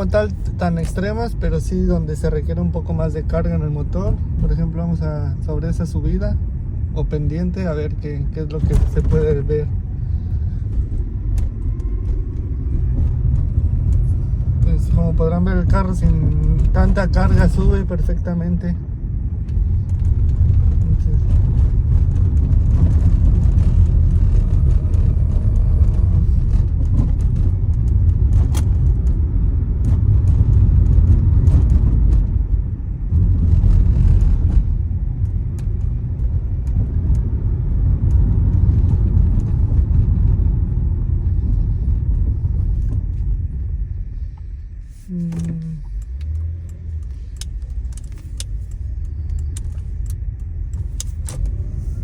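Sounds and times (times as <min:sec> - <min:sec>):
car engine rumble: 0:00.0 - 0:52.0
road noise: 0:00.0 - 0:52.0.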